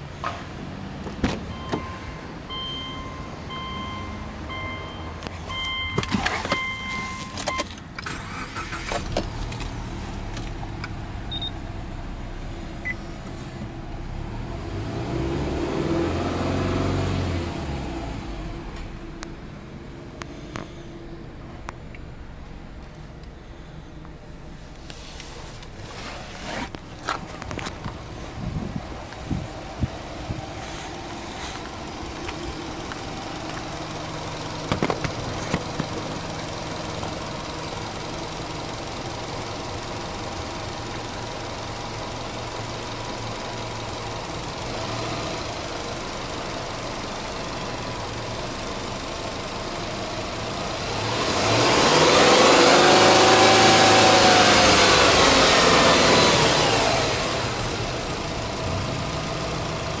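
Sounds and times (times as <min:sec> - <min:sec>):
car engine idling and revving: 0:00.0 - 1:00.0.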